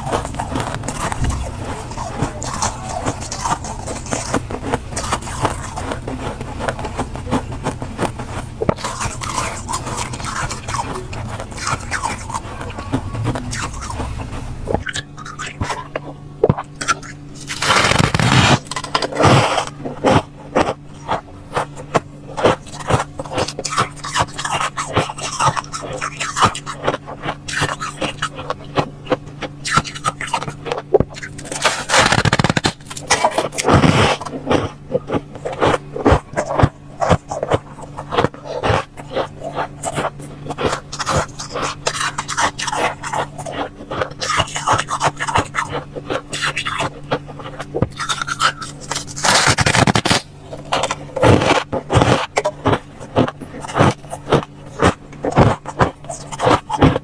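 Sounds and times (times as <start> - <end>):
frost crunching when bitten: 0.0 - 57.0
spoon scraping frost: 0.0 - 57.0.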